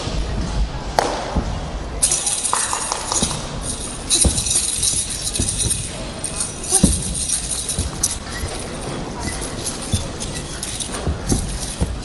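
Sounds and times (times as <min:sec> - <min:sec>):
murmur of large hall: 0:00.0 - 0:12.0
feet striking floor: 0:01.0 - 0:12.0
spear knocks and thuds: 0:01.0 - 0:12.0.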